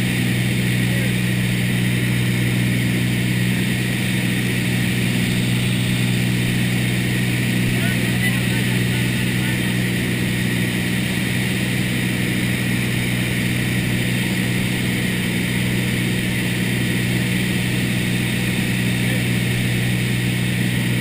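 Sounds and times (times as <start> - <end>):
light aircraft engine drone in cabin: 0.0 - 21.0.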